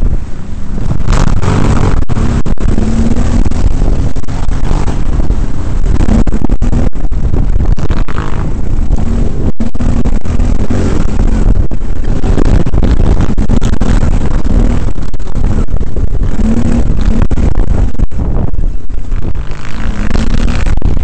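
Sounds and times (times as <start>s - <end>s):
microphone jolting: 0.0s - 21.0s
quad bike engine revving: 0.0s - 21.0s
wind noise on microphone: 0.0s - 21.0s.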